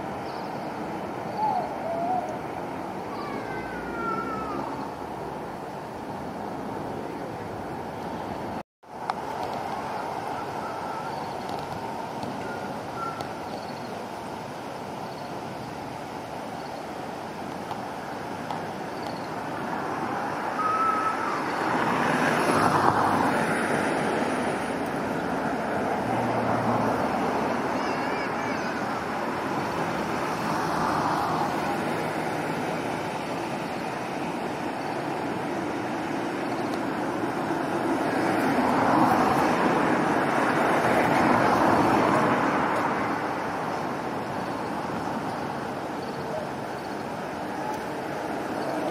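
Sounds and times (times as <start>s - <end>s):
road traffic: 0.0s - 48.9s.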